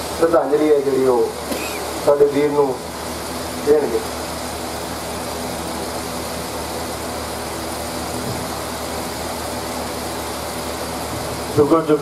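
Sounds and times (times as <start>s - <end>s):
electric fan running: 0.0s - 12.0s.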